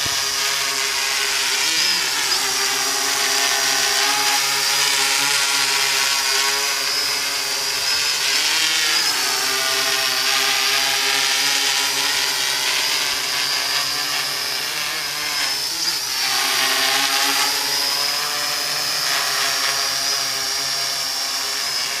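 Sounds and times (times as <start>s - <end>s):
quadcopter motors whining: 0.0s - 22.0s.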